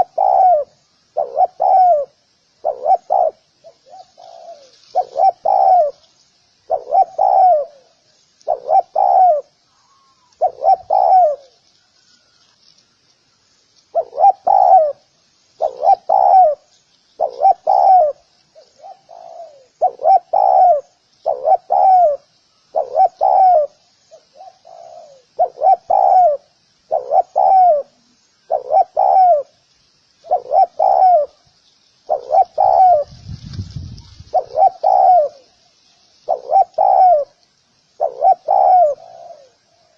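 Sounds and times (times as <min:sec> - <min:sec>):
dove cooing: 0:00.0 - 0:12.5, 0:13.9 - 0:29.6, 0:30.2 - 0:35.6, 0:36.2 - 0:39.9.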